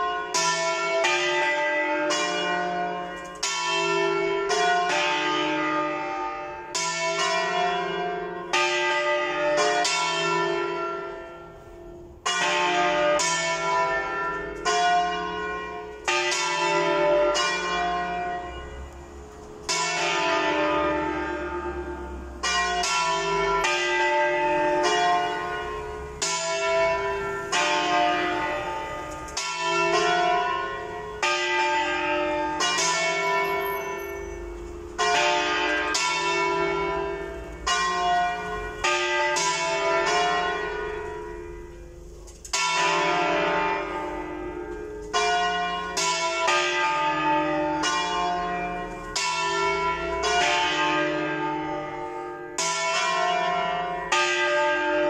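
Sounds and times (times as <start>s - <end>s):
church bells pealing: 0.0s - 55.0s.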